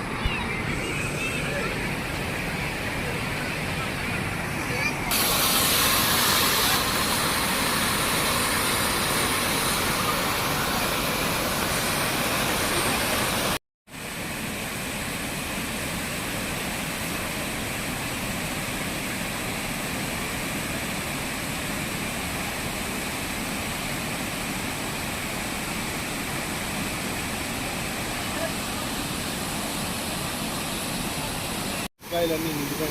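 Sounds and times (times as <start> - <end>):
floodwater rushing over a dam: 0.0 - 32.9.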